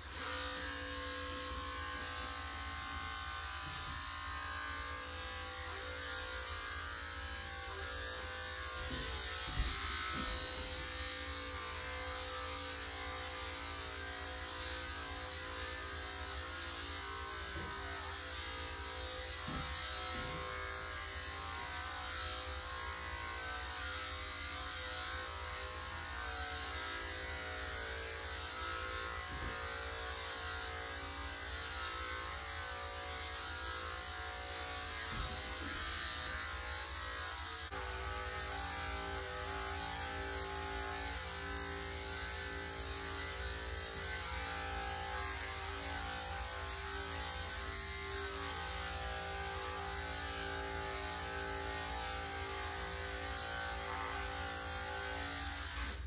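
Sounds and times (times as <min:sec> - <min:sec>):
electric clippers buzzing: 0:00.0 - 0:56.0.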